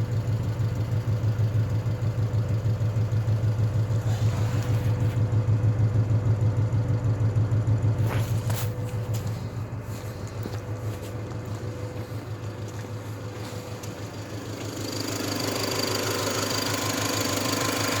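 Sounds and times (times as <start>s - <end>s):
engine running with knock: 0.0s - 18.0s.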